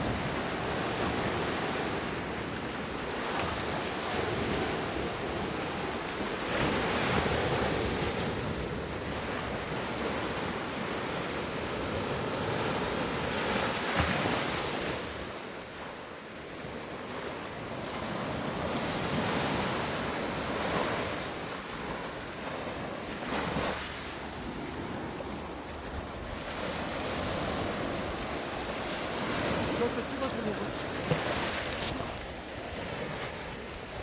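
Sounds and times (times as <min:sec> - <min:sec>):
sea waves washing ashore: 0:00.0 - 0:34.0.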